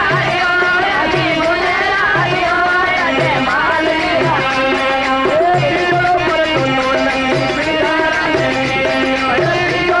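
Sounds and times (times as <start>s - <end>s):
person singing folk melody: 0.0s - 10.0s.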